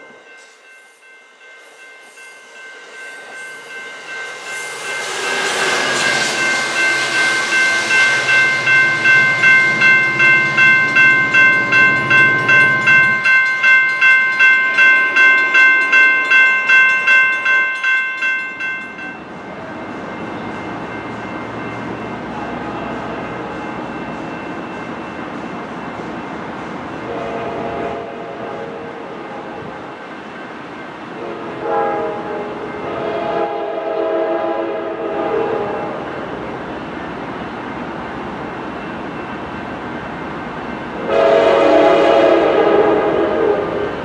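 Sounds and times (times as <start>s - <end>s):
crossing warning bell ringing: 0.0s - 44.0s
train rumble: 0.0s - 44.0s.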